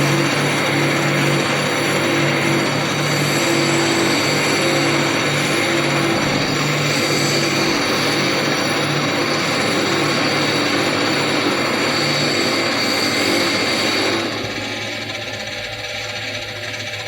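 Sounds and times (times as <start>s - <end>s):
metal lathe machining: 0.0s - 17.0s.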